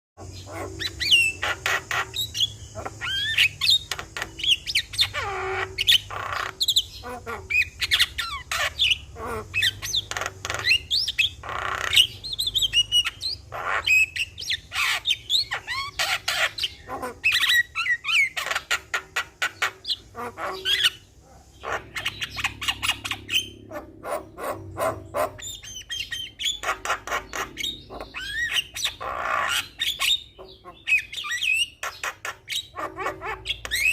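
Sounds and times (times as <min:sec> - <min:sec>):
myna bird singing: 0:00.2 - 0:33.9.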